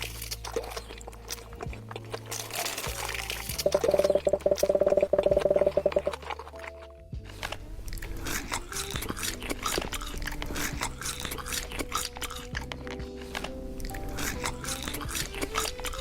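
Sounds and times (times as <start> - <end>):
background music: 0.0 - 16.0
crunchy bites and chewing: 0.0 - 16.0.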